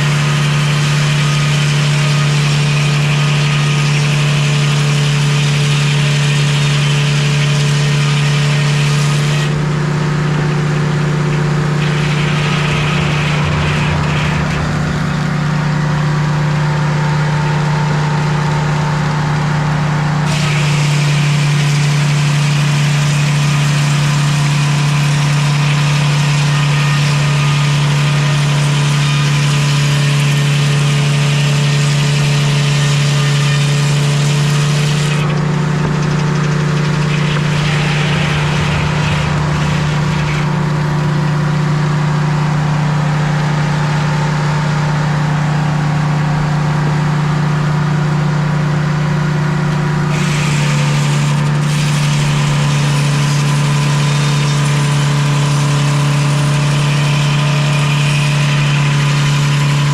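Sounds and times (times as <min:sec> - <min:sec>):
saw blade hissing through log: 0:00.0 - 0:17.0, 0:19.4 - 0:35.5, 0:36.1 - 0:42.6, 0:45.4 - 0:59.9
sawmill engine running: 0:00.0 - 0:59.9.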